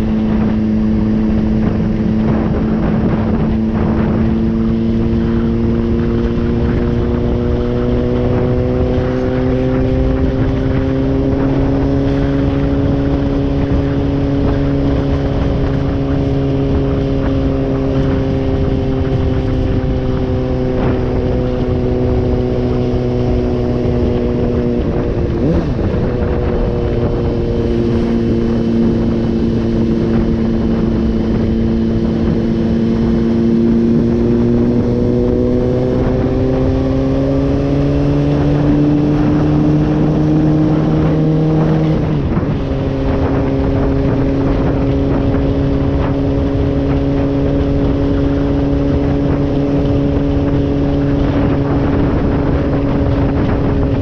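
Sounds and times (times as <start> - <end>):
motorcycle engine running: 0.0 - 54.0
wind rush: 0.0 - 54.0.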